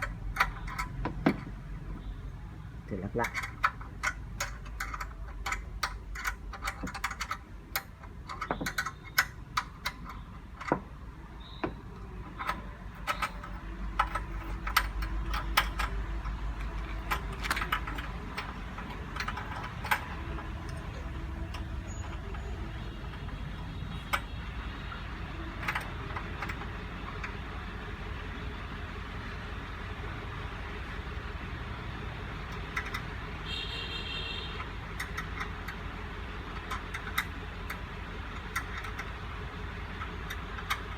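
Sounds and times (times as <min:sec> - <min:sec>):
clicks and knocks of parts handled: 0:00.0 - 0:02.0, 0:03.1 - 0:27.7, 0:32.4 - 0:33.6, 0:34.3 - 0:40.9
car engine idling: 0:00.0 - 0:40.9.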